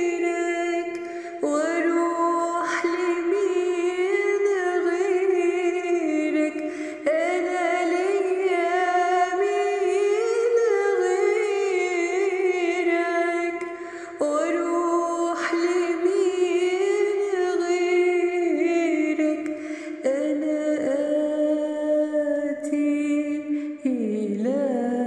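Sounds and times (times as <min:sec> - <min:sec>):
woman singing worship song: 0:00.0 - 0:25.0.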